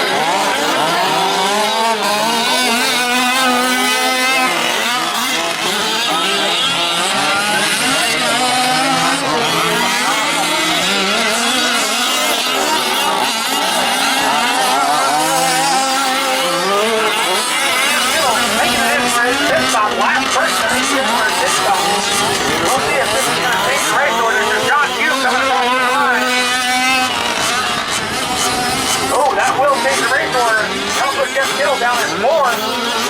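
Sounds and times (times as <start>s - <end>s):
rc truck engines revving: 0.0s - 33.0s.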